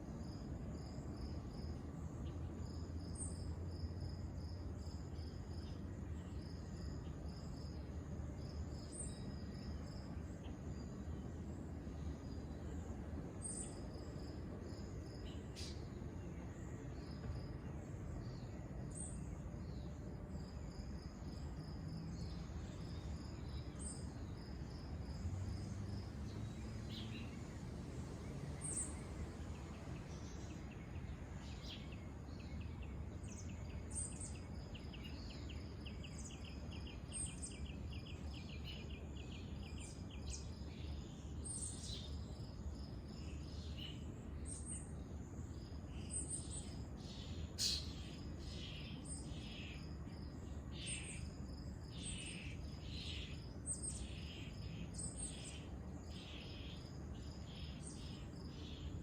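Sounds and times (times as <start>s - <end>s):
insects trilling: 0.1s - 59.0s.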